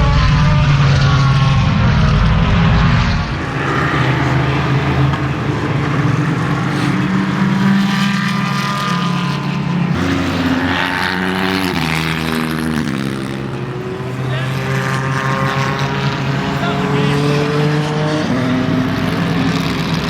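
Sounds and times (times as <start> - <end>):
race car engine shifting gears: 3.0 - 20.0.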